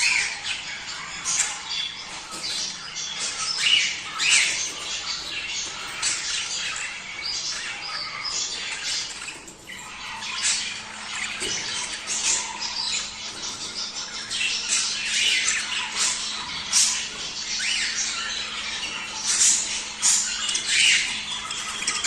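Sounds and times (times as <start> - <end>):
budgerigars chattering and squawking: 0.0 - 22.0.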